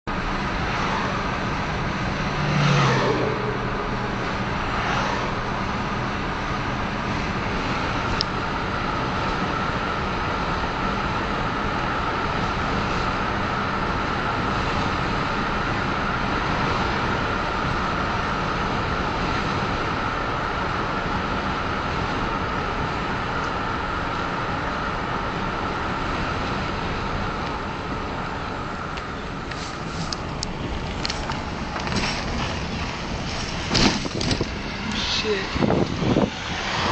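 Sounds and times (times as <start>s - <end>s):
car road and wind noise: 0.0s - 36.9s.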